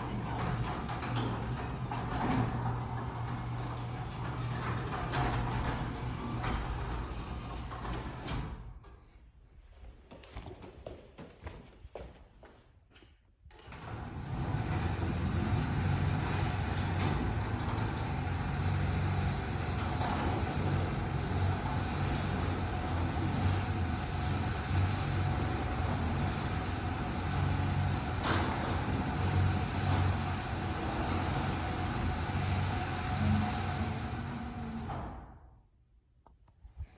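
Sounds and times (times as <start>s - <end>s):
garage door opener humming: 0.0s - 8.9s, 13.5s - 35.7s.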